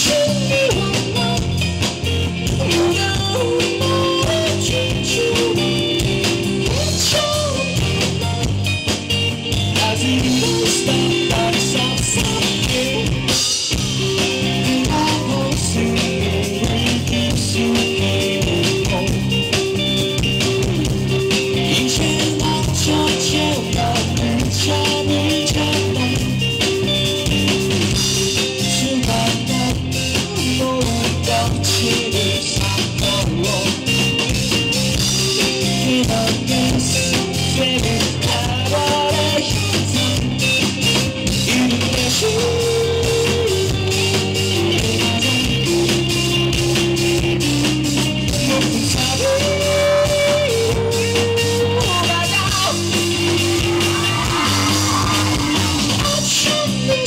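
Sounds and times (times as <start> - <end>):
male lead vocal: 0.0 - 8.4, 9.6 - 19.6, 20.2 - 57.0
live rock band playing: 0.0 - 57.0.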